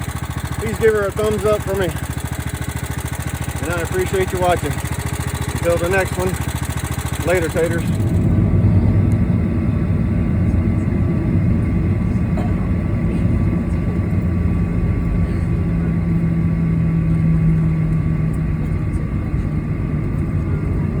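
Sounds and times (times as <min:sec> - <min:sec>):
riding lawn mower engine running: 0:00.0 - 0:21.0.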